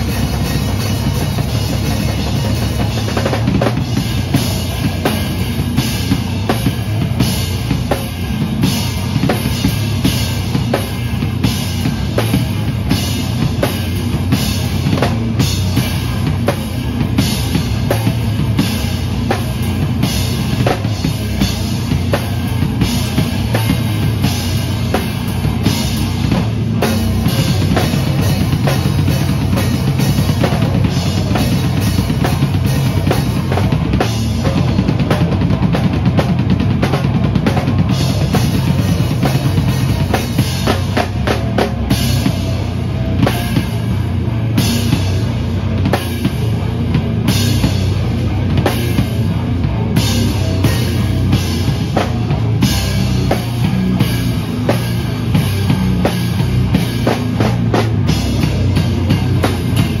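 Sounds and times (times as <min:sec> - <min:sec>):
drum kit played hard: 0:00.0 - 1:00.0
rock band guitar: 0:00.0 - 1:00.0.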